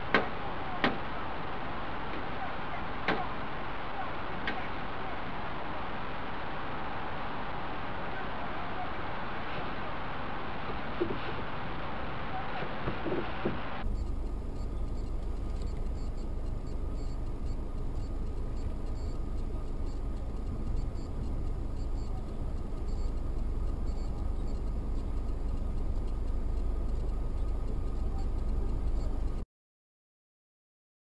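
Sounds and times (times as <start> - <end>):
car driving road rumble: 0.0 - 29.4.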